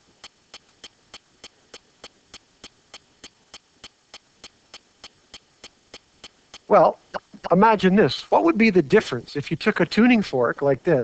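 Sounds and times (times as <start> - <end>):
faint steady ticking: 0.0 - 11.0.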